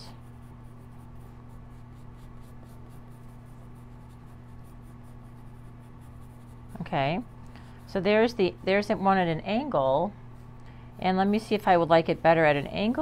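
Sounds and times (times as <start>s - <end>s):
low electrical hum: 0.0s - 13.0s
pencil scratching on paper: 0.1s - 9.4s, 11.1s - 13.0s.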